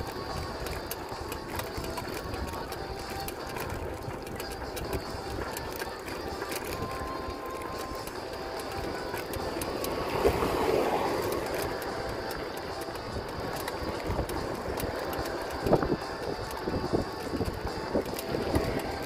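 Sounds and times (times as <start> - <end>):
bicycle rolling: 0.0 - 19.0
light irregular clicking: 0.0 - 19.0.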